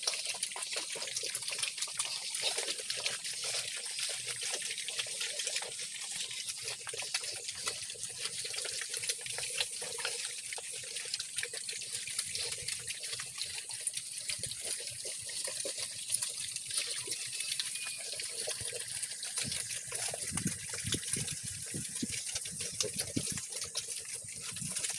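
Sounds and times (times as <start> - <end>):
piglets chewing and smacking: 0.0 - 24.9.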